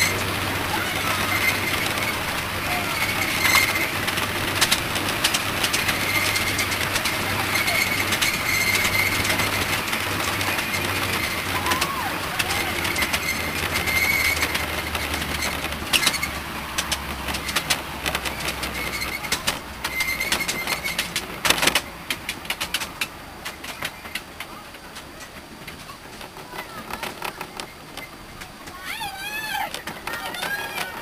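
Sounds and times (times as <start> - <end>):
miniature train rolling rumble: 0.0 - 31.0
wheels clicking over rail joints: 0.0 - 31.0.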